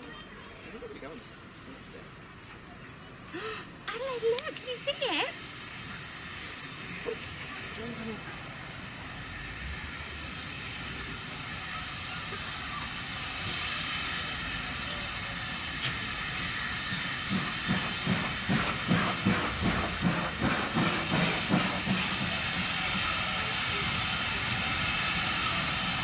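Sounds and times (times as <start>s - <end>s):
steam hissing: 0.0s - 26.0s
steam locomotive rhythmic chuffing: 0.0s - 26.0s.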